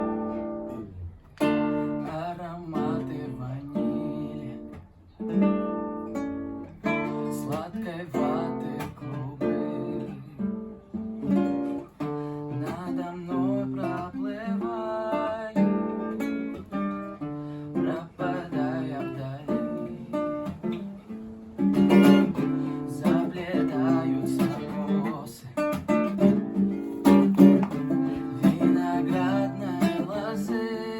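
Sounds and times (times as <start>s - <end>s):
acoustic guitar playing: 0.0s - 30.9s.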